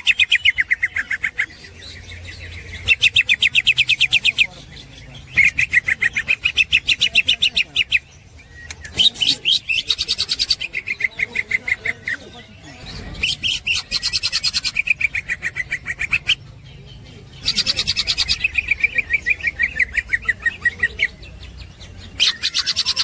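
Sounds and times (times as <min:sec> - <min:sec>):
bird chattering trill: 0:00.0 - 0:23.0.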